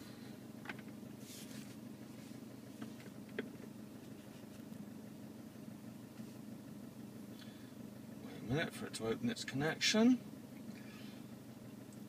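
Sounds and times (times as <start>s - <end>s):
vehicle cabin hum: 0.0s - 12.0s.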